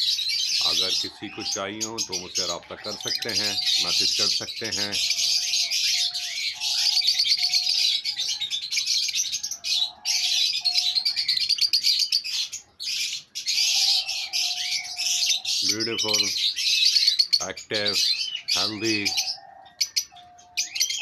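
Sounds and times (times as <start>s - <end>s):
birds chirping and chattering: 0.0s - 21.0s.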